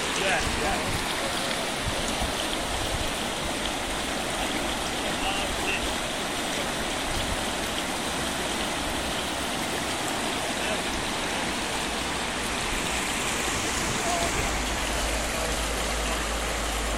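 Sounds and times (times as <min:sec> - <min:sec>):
floodwater rushing: 0:00.0 - 0:16.9.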